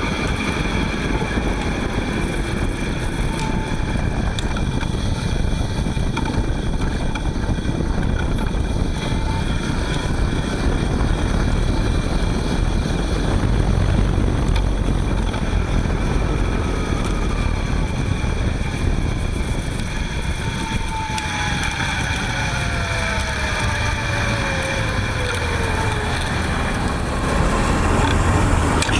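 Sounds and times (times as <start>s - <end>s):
electric hub motor whine: 0.0s - 28.9s
wind rumbling on microphone: 0.0s - 28.9s.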